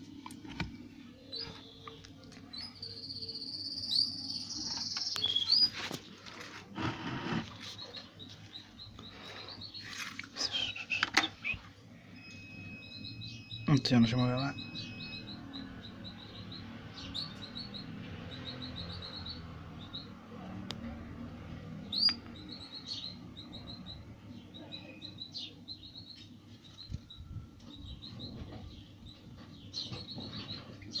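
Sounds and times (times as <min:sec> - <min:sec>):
small bird chirping: 0:01.2 - 0:05.8, 0:06.8 - 0:20.2, 0:21.7 - 0:31.0.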